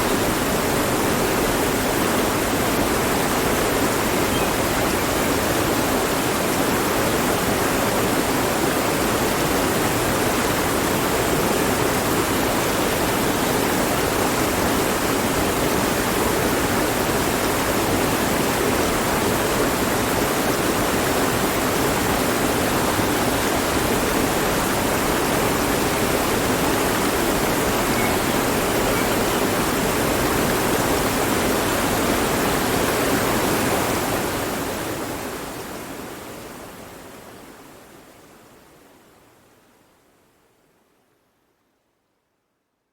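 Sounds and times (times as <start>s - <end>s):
stream flowing: 0.0s - 39.5s.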